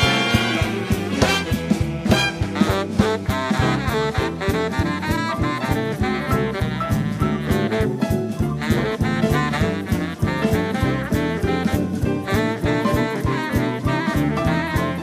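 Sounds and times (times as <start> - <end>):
big band playing swing: 0.0 - 15.0.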